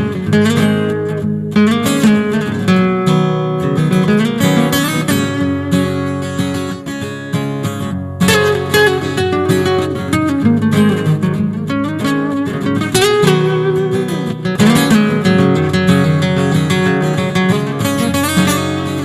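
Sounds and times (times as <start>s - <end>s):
acoustic guitar strummed and plucked: 0.0s - 19.0s.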